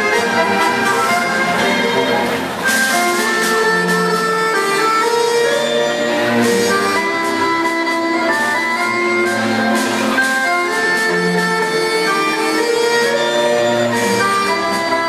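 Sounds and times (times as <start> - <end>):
instrumental dance music: 0.0 - 15.0.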